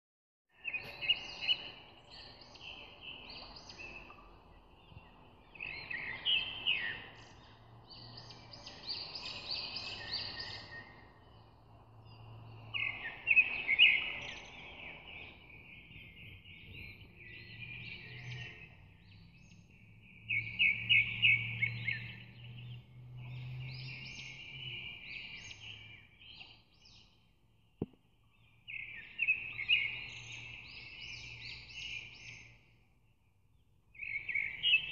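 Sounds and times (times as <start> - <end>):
small birds chirping and trilling: 0.5 - 34.9.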